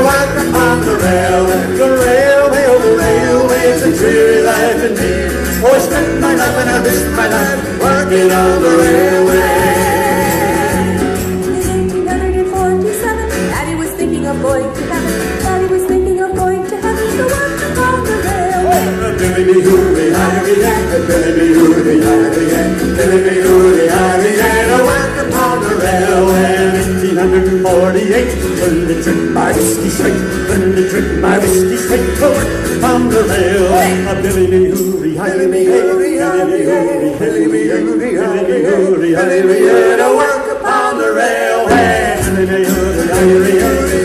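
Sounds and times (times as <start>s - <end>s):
voices singing together: 0.0s - 12.1s, 17.0s - 44.0s
bass: 0.0s - 44.0s
strummed acoustic guitars: 0.0s - 44.0s.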